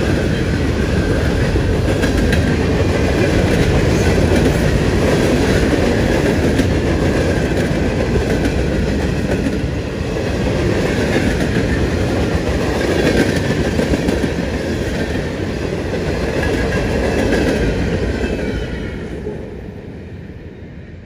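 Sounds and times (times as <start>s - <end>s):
freight train wheels clattering: 0.0s - 18.8s.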